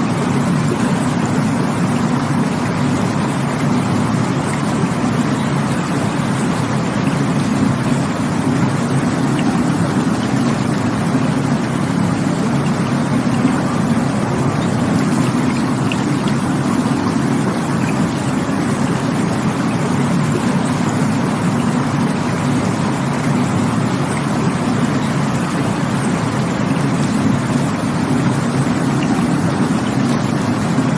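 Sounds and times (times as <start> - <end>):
rushing water: 0.0 - 30.9.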